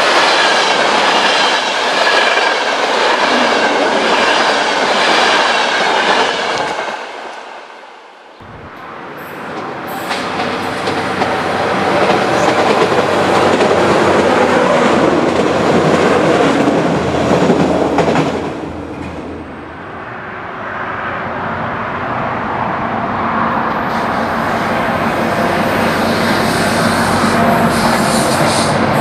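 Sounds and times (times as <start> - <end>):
distant train rumble: 0.0 - 29.0
passenger train passing: 0.0 - 29.0.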